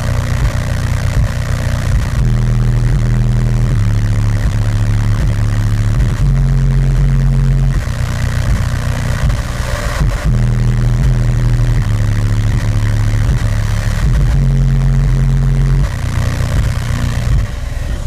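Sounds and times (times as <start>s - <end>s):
loud deep bass song from subwoofers: 0.0s - 18.0s.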